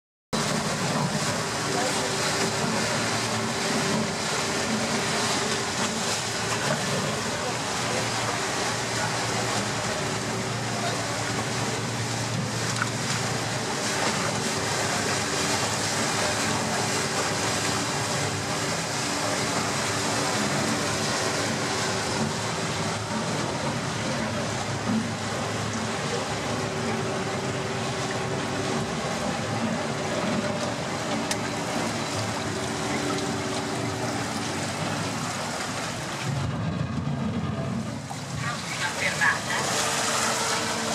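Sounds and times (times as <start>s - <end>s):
boat engine droning: 0.4s - 40.9s
water wash: 0.4s - 40.9s.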